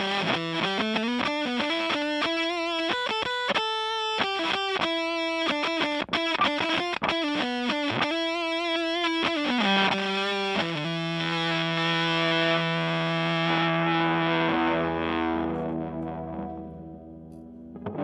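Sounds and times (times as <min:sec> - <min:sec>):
fuzzy electric guitar: 0:00.0 - 0:18.0.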